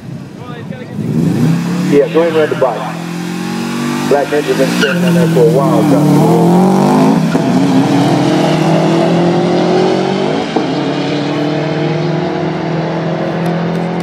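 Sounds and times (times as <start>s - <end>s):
cars accelerating hard: 0.9s - 14.0s.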